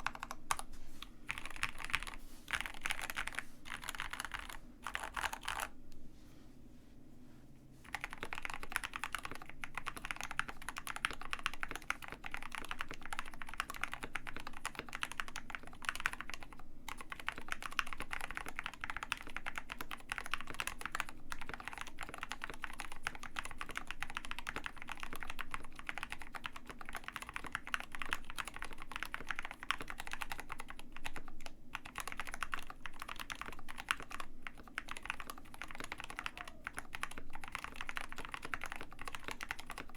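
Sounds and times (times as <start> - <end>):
fast mechanical keyboard typing: 0.0 - 0.7, 1.3 - 5.7, 7.8 - 39.9.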